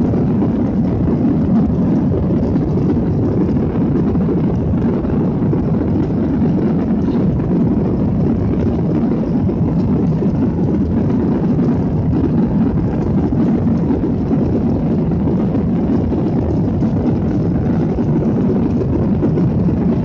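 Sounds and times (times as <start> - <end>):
jet engines in airliner cabin: 0.0 - 20.0.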